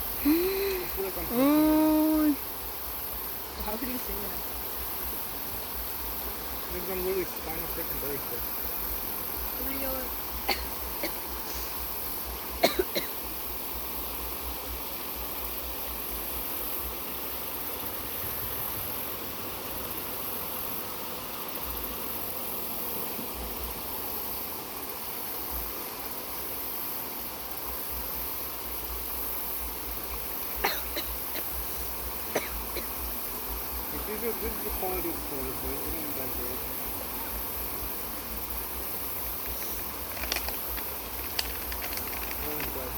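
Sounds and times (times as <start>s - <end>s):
flowing water hiss: 0.0s - 42.9s.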